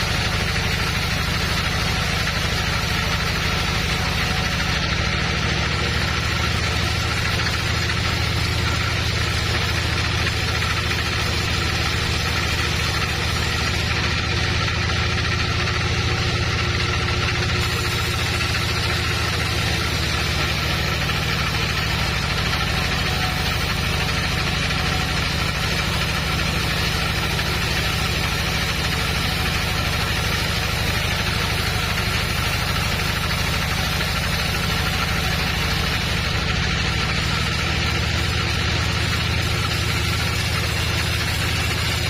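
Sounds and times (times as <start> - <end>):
sawmill machinery humming: 0.0 - 42.0.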